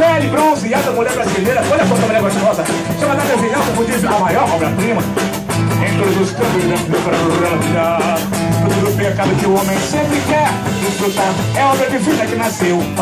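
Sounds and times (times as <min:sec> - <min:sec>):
acoustic guitar: 0:00.0 - 0:13.0
electric bass: 0:00.0 - 0:13.0
steady beat: 0:00.0 - 0:13.0.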